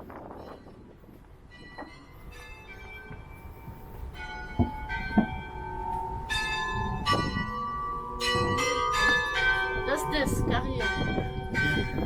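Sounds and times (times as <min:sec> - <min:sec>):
carillon bells playing: 0:00.2 - 0:12.0.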